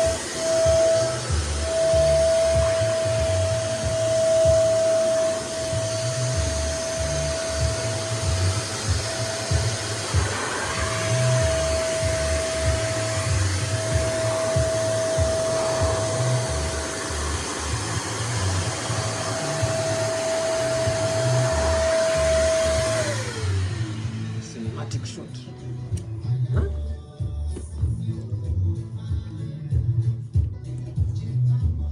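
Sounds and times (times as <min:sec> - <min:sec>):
vacuum cleaner blowing air: 0:00.0 - 0:25.6.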